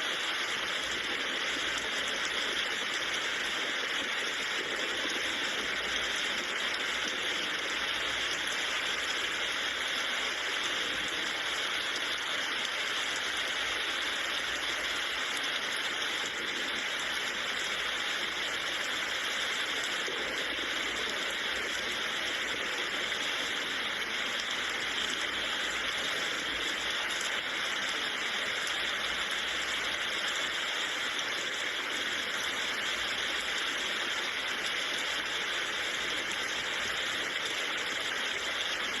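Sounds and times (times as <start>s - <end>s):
rain falling steadily: 0.0s - 39.0s.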